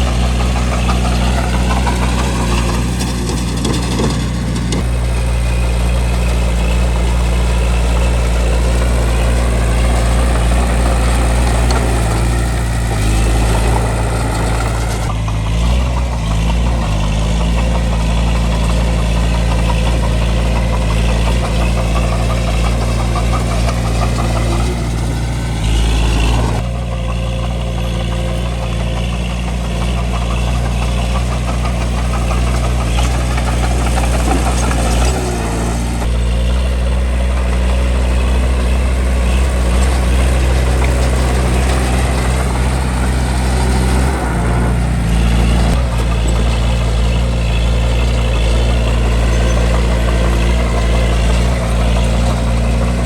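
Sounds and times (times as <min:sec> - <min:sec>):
bulldozer diesel engine running: 0:00.0 - 0:53.0
mechanical clatter: 0:00.0 - 0:53.0.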